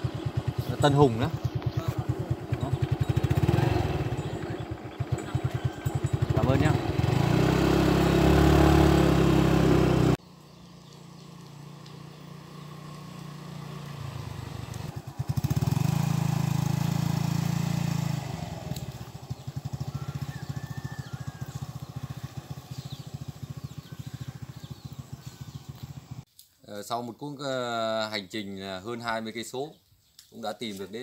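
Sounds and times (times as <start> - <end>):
motor scooter engine: 0.0 - 26.3.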